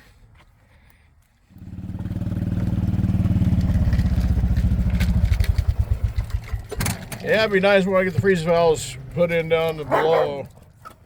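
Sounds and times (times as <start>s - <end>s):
small vehicle engine pulsing: 1.4s - 11.0s.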